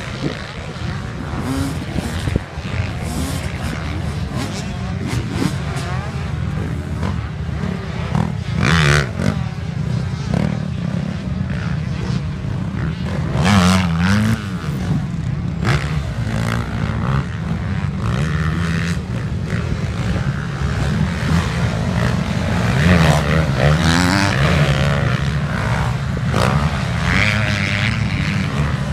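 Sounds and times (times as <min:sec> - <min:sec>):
constant low rumble: 0:00.0 - 0:28.9
motorcycle engines revving: 0:00.0 - 0:28.9.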